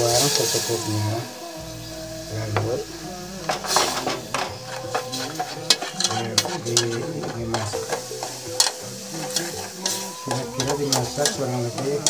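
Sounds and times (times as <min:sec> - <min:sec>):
spoon scraping metal pot: 0:01.5 - 0:12.0.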